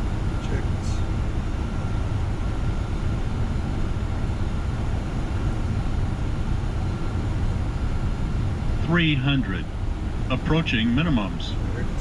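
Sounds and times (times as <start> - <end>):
low rumble of airflow and engines: 0.0 - 12.0.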